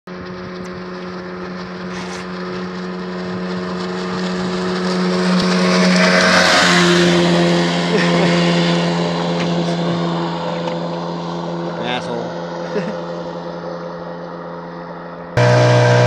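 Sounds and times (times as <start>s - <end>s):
speedboat engine passing: 0.1s - 16.0s.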